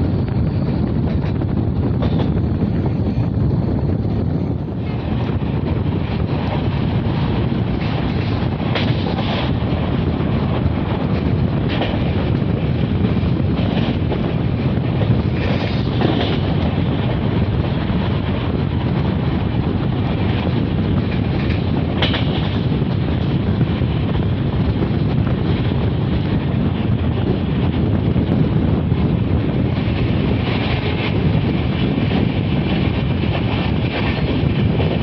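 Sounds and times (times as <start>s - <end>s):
train rumbling on track: 0.0s - 35.0s
wind buffeting microphone: 0.0s - 35.0s
train wheels clattering: 4.4s - 35.0s.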